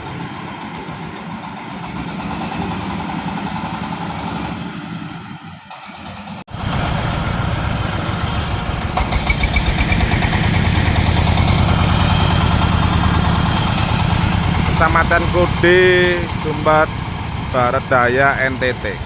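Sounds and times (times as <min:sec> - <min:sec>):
engine deep rumble: 0:00.0 - 0:19.0.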